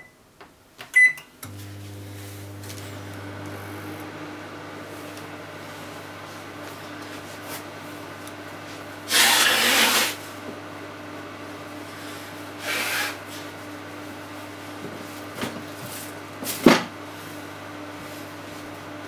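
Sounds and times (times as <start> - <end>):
microwave oven humming: 1.0 - 19.0.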